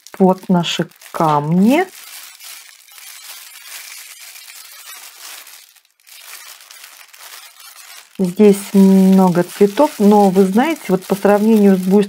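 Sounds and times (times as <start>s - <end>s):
plastic sleeve crinkling: 0.0s - 12.0s.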